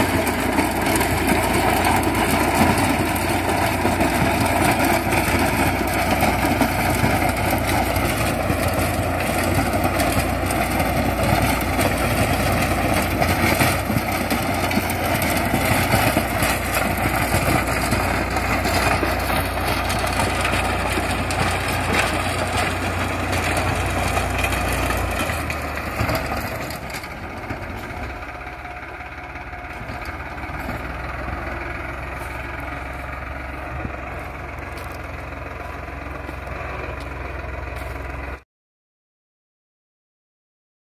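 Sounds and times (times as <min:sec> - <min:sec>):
rotavator churning soil: 0:00.0 - 0:38.4
tractor diesel engine: 0:00.0 - 0:38.4.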